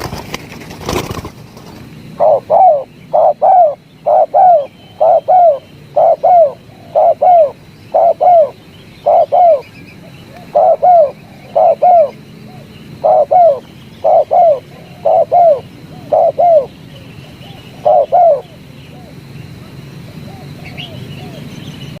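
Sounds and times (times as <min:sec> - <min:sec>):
dove cooing: 0:02.1 - 0:22.0.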